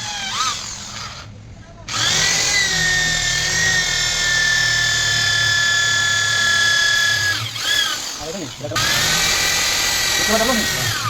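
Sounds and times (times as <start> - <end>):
electric drill whining: 0.0 - 1.3, 1.9 - 11.0.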